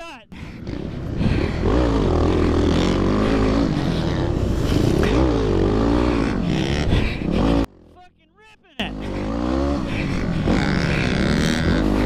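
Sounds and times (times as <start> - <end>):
dirt bike engine revving: 0.4 - 7.9, 8.8 - 12.0.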